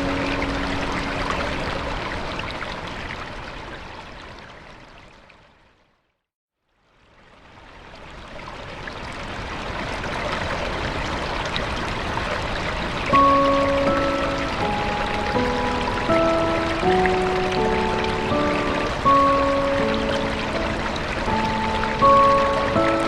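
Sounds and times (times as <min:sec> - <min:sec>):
rushing waterfall: 0:00.0 - 0:05.3, 0:07.1 - 0:23.0.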